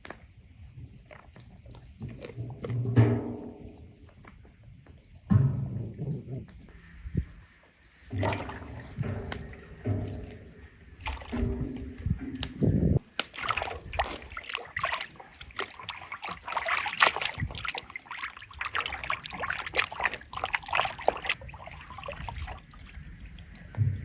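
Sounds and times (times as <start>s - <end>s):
water splashing and sloshing: 0.0s - 6.8s, 7.6s - 24.0s.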